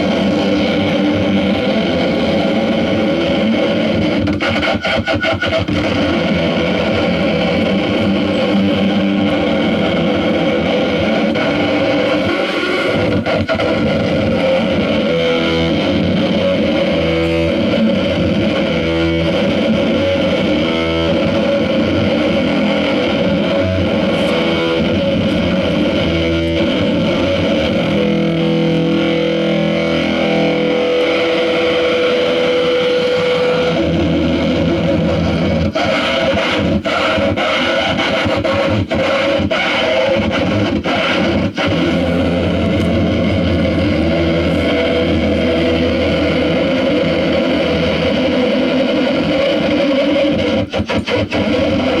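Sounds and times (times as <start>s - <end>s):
distorted noise music: 0.0s - 52.0s.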